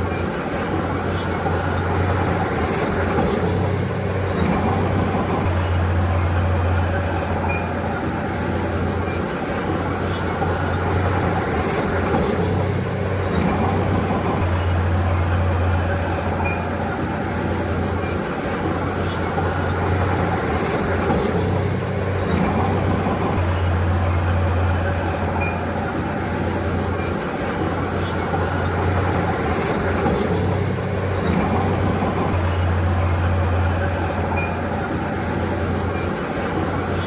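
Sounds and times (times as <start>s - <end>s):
bulldozer diesel engine running: 0.0s - 37.0s
faint high squeaks and clicks: 0.0s - 37.0s.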